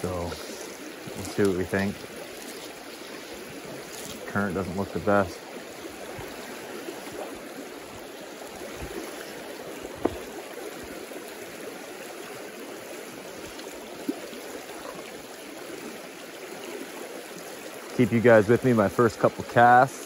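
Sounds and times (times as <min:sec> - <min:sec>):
river rushing over rocks: 0:00.0 - 0:18.5.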